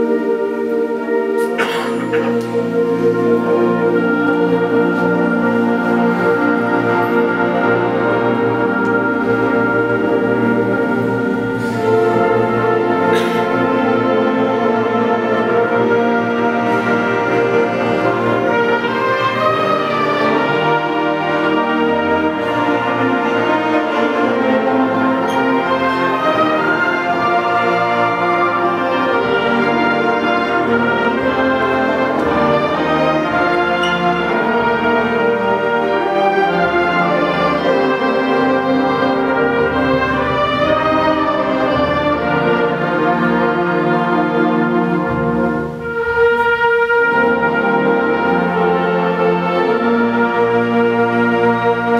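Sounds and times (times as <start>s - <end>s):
concert band playing slowly: 0.0s - 51.9s.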